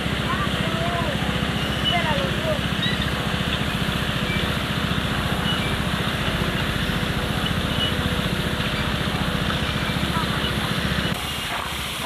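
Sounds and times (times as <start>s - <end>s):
motor pump engine running: 0.0s - 12.0s.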